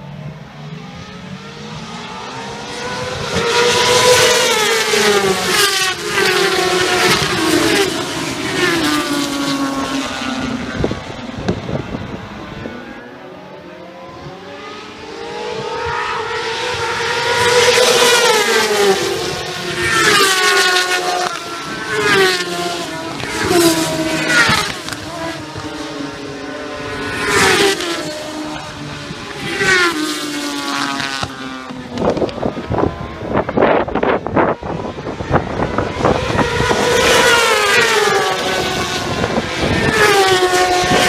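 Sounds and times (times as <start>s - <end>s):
racing motorcycles passing: 0.0s - 41.0s.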